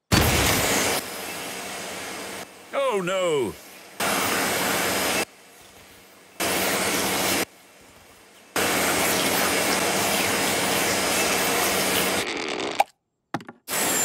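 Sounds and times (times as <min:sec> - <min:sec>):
vacuum cleaner running: 0:00.3 - 0:12.2, 0:13.7 - 0:14.0.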